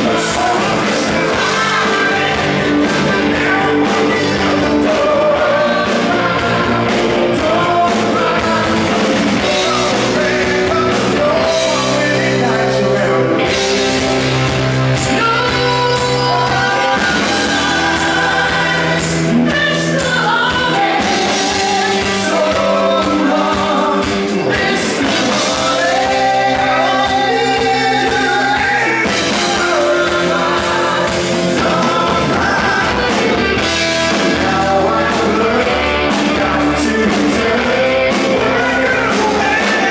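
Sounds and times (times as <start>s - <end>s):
live rock band playing: 0.0s - 39.9s
singer singing: 0.0s - 39.9s.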